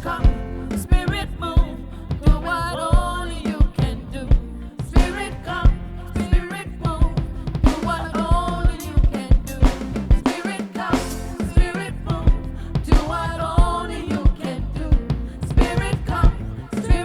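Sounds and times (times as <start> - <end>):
band playing instrumental music: 0.0 - 17.0
bass drum and snare hits: 0.0 - 17.0.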